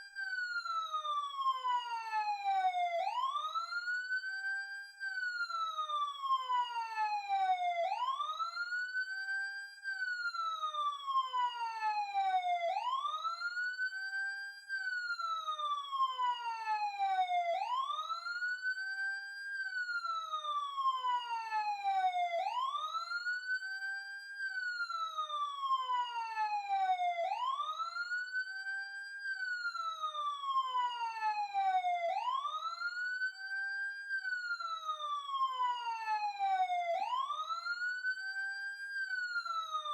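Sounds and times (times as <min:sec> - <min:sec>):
police siren wailing: 0:00.6 - 0:04.0, 0:05.4 - 0:08.8, 0:10.2 - 0:13.8, 0:15.0 - 0:18.8, 0:19.8 - 0:23.9, 0:24.5 - 0:39.9.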